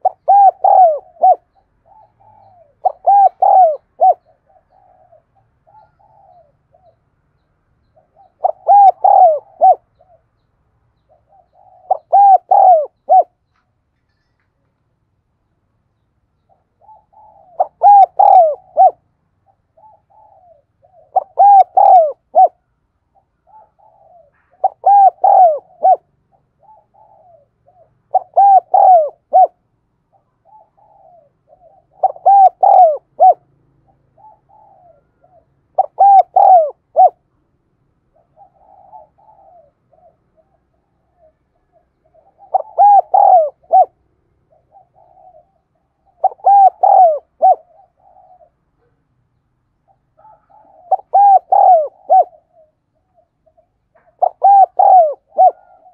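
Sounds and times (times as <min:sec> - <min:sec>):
dove cooing: 0:00.0 - 0:07.1, 0:07.8 - 0:10.4, 0:11.0 - 0:13.4, 0:16.4 - 0:37.3, 0:38.0 - 0:49.0, 0:49.8 - 0:55.9.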